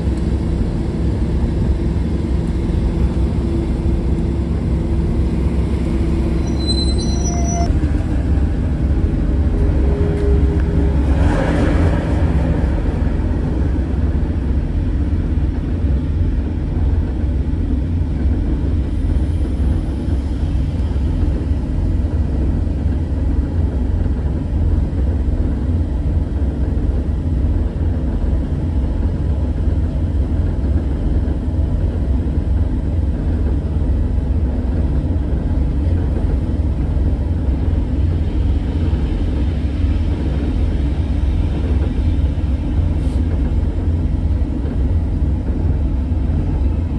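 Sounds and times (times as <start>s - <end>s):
diesel locomotive engine rumble: 0.0s - 46.9s
train passing: 0.0s - 46.9s.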